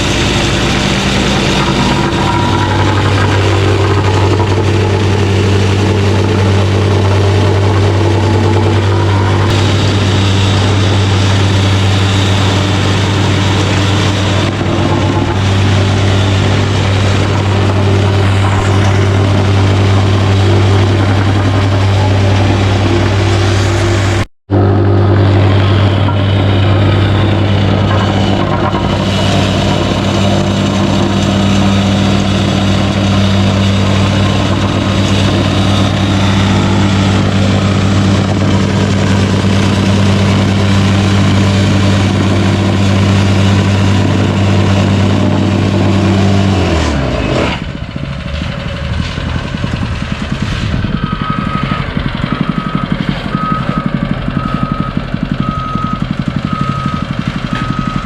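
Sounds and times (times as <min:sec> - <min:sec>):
plate compactor engine running: 0:00.0 - 0:58.0.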